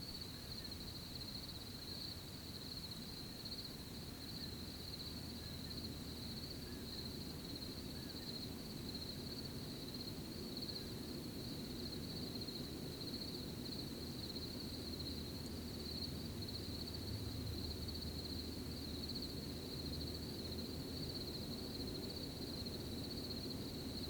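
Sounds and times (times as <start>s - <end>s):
crickets chirping: 0.0s - 24.0s
low rumble of night ambience: 0.0s - 24.0s.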